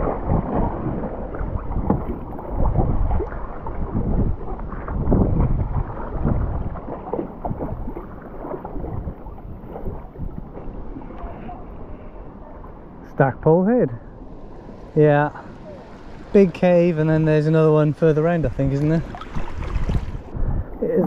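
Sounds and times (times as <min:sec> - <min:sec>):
wind buffeting microphone: 0:00.0 - 0:13.0, 0:14.2 - 0:21.0
paddle splashing: 0:00.0 - 0:13.1, 0:14.1 - 0:20.4
water washing along hull: 0:00.0 - 0:21.0.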